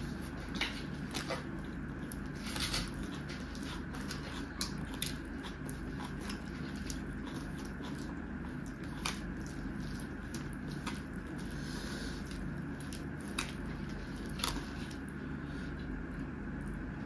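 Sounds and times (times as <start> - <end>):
closed-mouth chewing: 0.0 - 17.0
fingers squishing wet food: 0.0 - 17.0.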